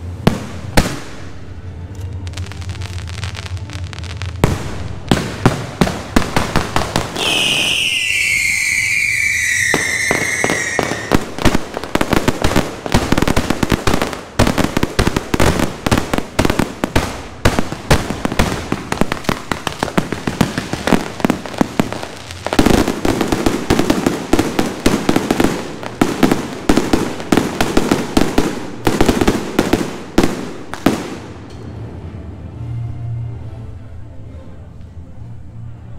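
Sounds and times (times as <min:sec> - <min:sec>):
fireworks bangs and crackles: 0:00.0 - 0:31.5.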